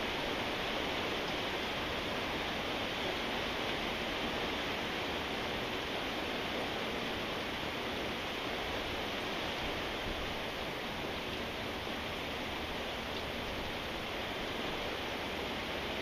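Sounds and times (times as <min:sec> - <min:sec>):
steady rainfall hiss: 0:00.0 - 0:16.0.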